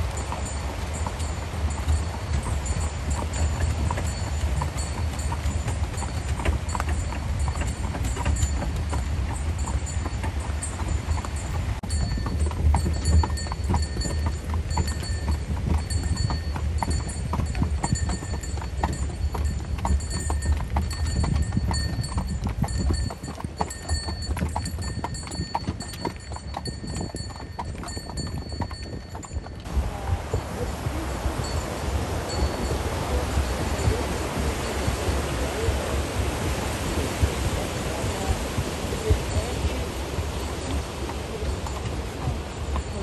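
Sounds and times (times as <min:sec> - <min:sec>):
horse hooves clip-clopping: 0:00.0 - 0:43.0.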